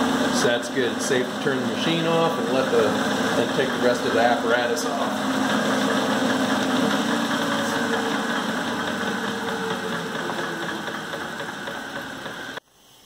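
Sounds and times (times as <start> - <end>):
lathe motor winding down: 0.0 - 12.6.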